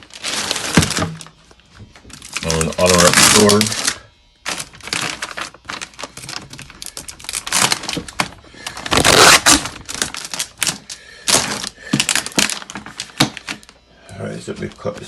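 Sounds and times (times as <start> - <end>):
packaging rustling: 0.0 - 13.8.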